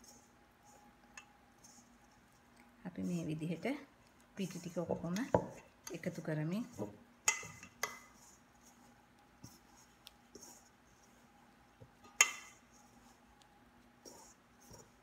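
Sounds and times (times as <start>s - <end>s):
dough scraping and rustling: 0.0s - 15.0s.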